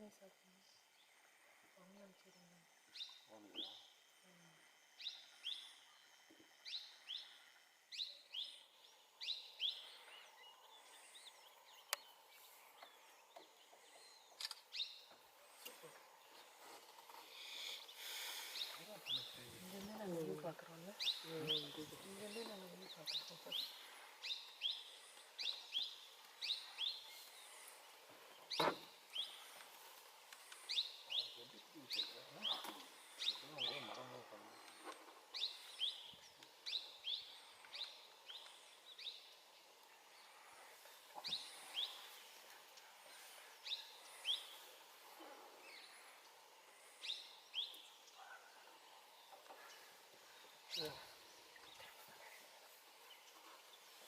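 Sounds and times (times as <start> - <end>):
faint outdoor background: 0.0 - 54.0
bird chirping: 0.4 - 54.0.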